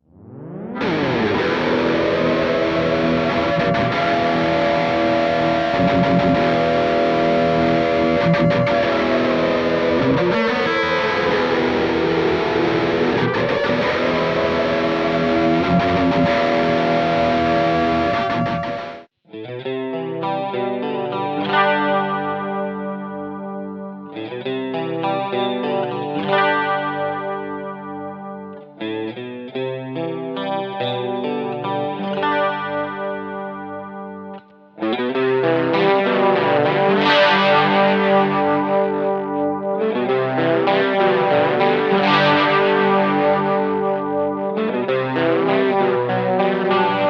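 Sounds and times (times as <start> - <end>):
distorted electric guitar: 0.0 - 47.0.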